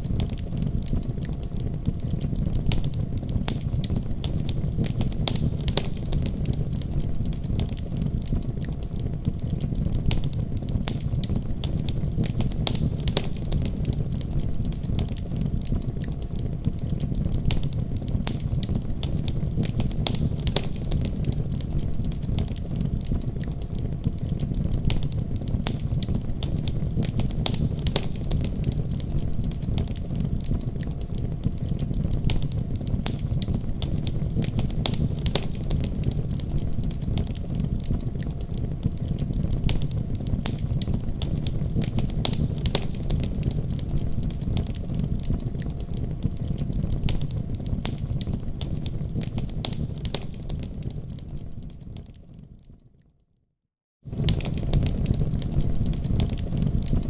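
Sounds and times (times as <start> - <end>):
fire crackling in a fireplace: 0.0 - 53.3, 54.0 - 57.0.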